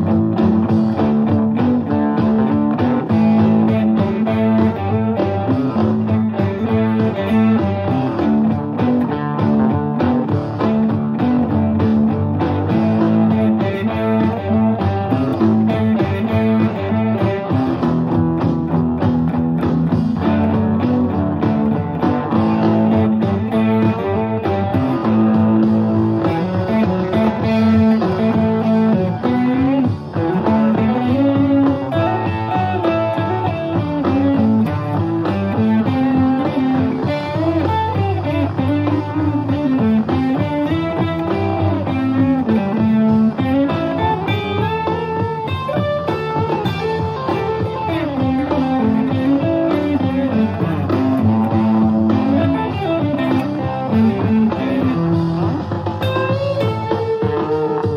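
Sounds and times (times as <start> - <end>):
electric guitar through amplifier: 0.0 - 57.9.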